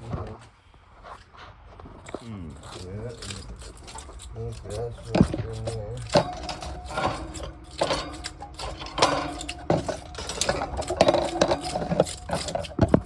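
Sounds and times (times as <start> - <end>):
metal clinking and scraping: 1.0 - 13.0.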